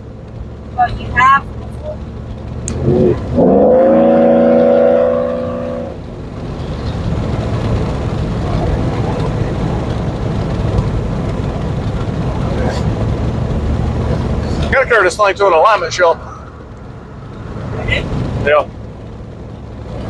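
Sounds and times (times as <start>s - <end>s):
pickup engine revving: 0.0s - 20.0s
truck driving road noise: 0.0s - 20.0s.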